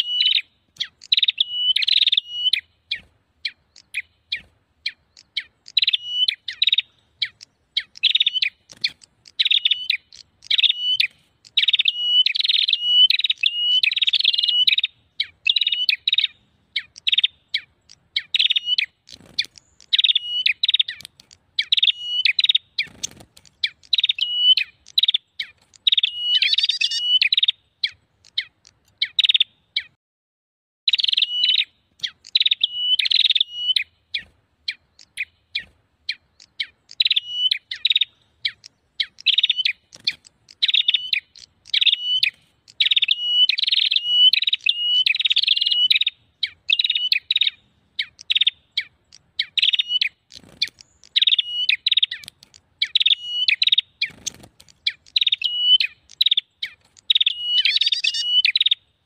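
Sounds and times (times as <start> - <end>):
songbirds chirping: 0.0 - 30.0, 30.9 - 59.0.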